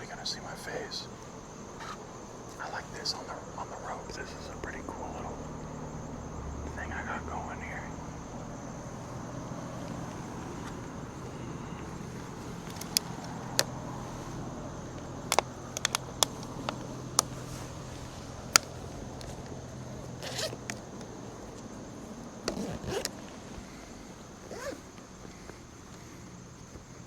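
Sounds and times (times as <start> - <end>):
high insect buzz: 0.0 - 27.0
low steady hum: 0.0 - 27.0.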